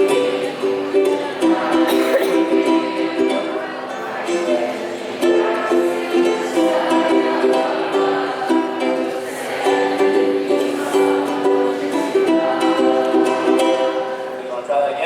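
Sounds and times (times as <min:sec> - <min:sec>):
ukulele strumming chords: 0:00.0 - 0:14.7.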